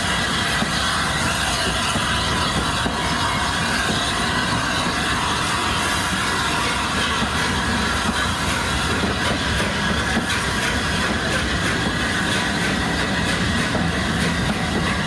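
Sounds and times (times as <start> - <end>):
rhythmic clickety-clack: 0.0 - 15.0
train rumbling on rails: 0.0 - 15.0.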